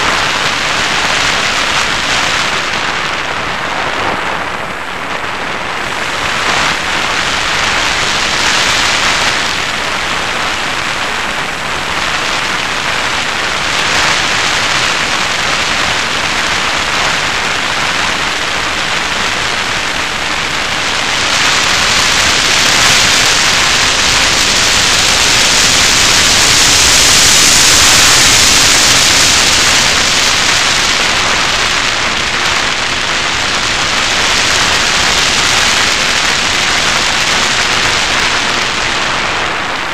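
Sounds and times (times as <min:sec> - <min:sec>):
air rushing over camera: 0:00.0 - 0:39.9.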